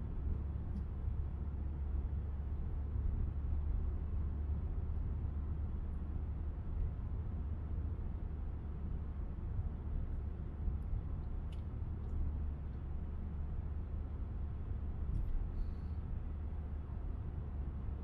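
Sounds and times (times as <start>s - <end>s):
car driving at cruising speed: 0.0s - 18.0s.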